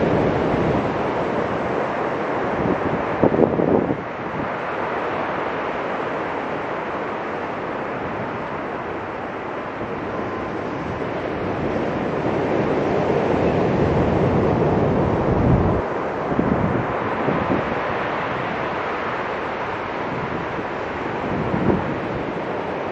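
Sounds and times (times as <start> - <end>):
ocean surf breaking on beach: 0.0 - 22.9.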